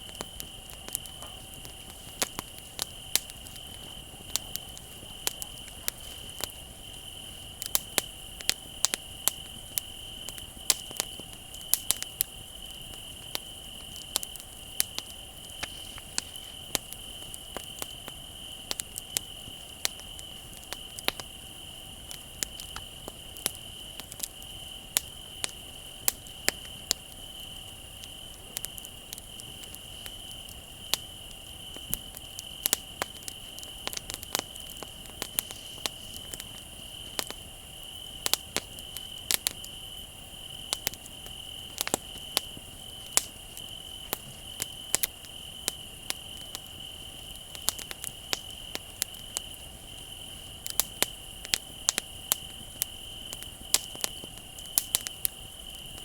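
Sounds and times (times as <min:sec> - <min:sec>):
crickets chirping: 0:00.0 - 0:56.0
wood fire crackling and popping: 0:00.0 - 0:56.0.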